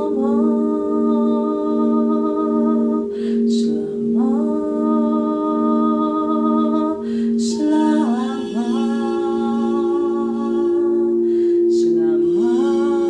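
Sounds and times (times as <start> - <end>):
singing bowls ringing: 0.0 - 13.0.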